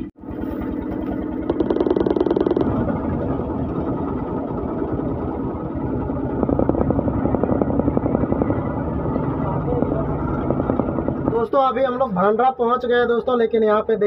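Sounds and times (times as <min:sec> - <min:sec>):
three-wheeler engine pulsing: 0:00.0 - 0:14.0.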